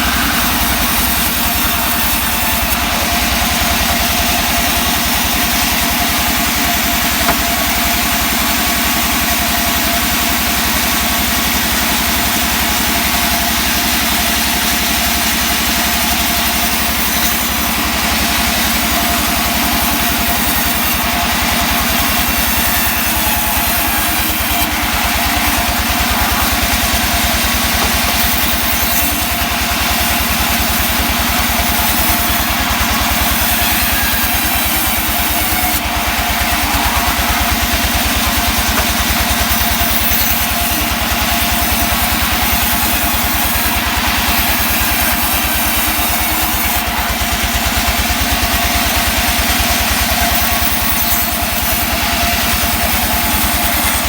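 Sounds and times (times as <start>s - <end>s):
wood saw engine running: 0.0s - 54.0s.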